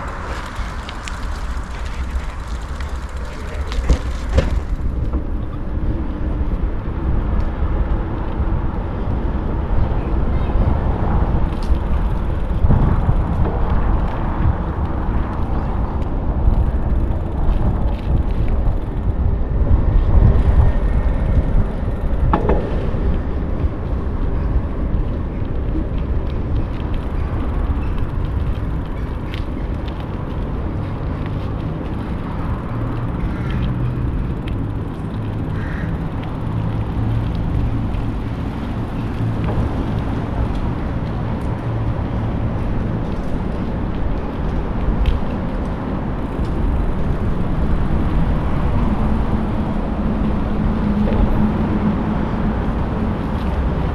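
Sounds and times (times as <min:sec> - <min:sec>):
low hum: 0:00.0 - 0:07.0, 0:11.2 - 0:43.5, 0:46.1 - 0:53.7
wind and tyre rumble: 0:00.0 - 0:53.9.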